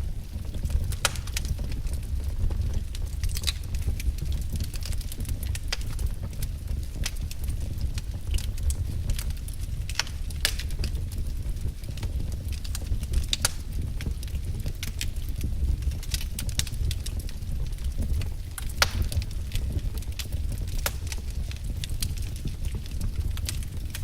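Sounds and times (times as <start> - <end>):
low rumble of flames: 0.0 - 24.0
firewood popping and snapping: 0.2 - 24.0.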